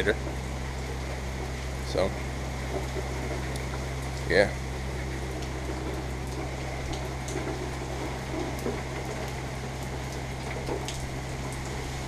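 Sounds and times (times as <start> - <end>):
sharp drip ticks: 0.0 - 11.9
low hum: 0.0 - 12.0
rain falling: 0.0 - 12.0.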